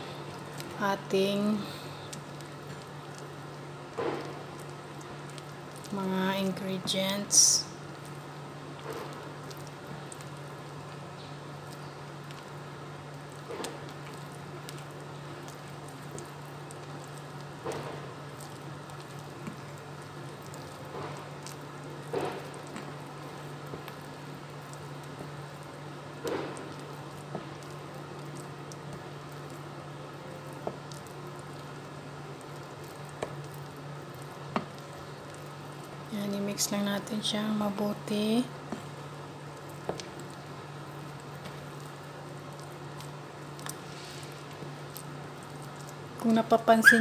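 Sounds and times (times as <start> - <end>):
steady low hum: 0.0 - 47.0
spoon squishing batter: 0.2 - 46.9.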